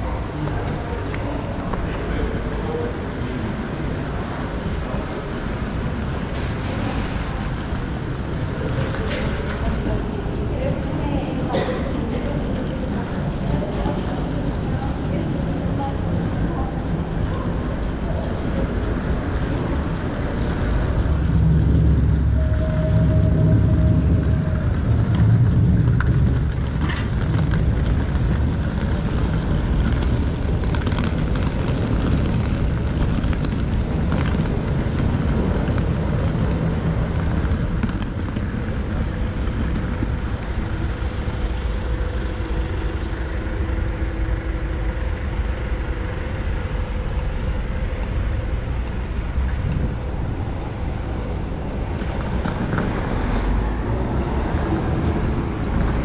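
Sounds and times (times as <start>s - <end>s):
faint steady hum: 0.0s - 52.9s
cars passing: 0.0s - 56.0s
pedestrian bustle: 0.0s - 56.0s
road traffic rumble: 0.0s - 56.0s.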